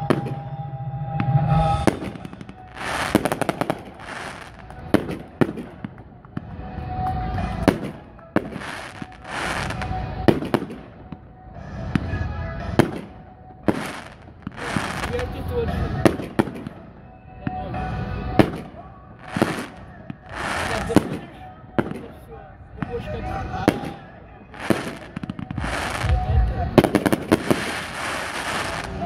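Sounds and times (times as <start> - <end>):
noisy firework bursts: 0.0 - 29.0
firework shells bursting with bangs: 1.2 - 22.2, 22.8 - 29.0.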